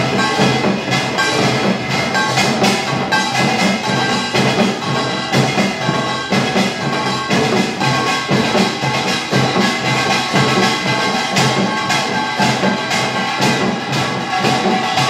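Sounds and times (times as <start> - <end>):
barrel drums: 0.0 - 15.0
hourglass drums: 0.0 - 15.0
small gongs clanging: 0.0 - 15.0.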